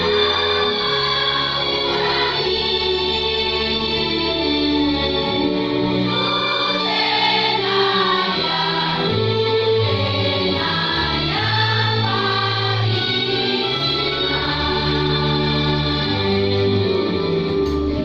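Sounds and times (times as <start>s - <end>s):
choir singing held chords: 0.0s - 4.8s, 5.9s - 17.3s.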